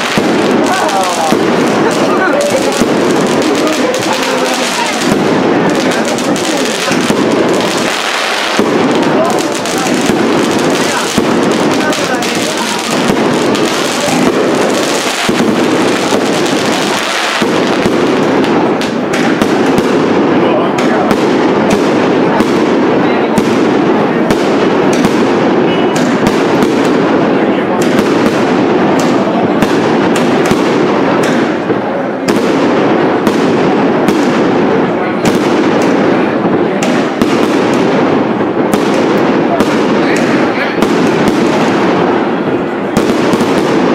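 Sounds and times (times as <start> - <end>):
crowd chatter: 0.0 - 43.9
fireworks crackling and banging: 0.0 - 43.9.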